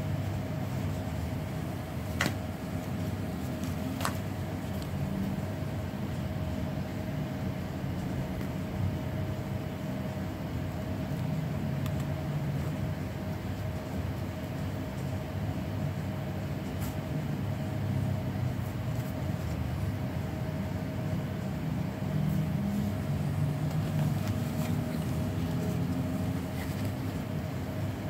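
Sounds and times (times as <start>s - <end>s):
faint constant hum: 0.0s - 28.0s.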